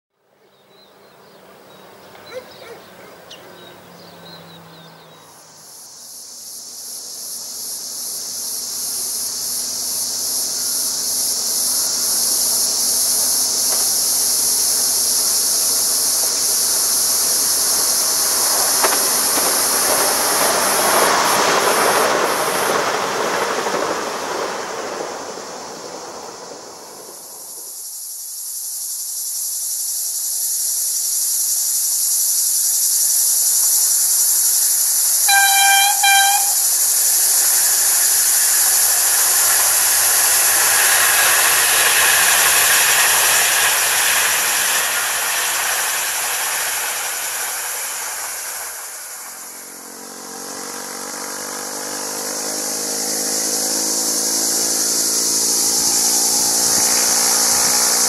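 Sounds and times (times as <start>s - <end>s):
cicada chorus: 0.2s - 58.0s
train wheels rolling on rails: 0.7s - 58.0s.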